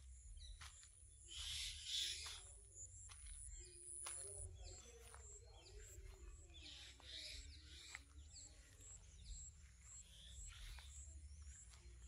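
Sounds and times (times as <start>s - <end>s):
bird chirps: 1.2s - 12.0s.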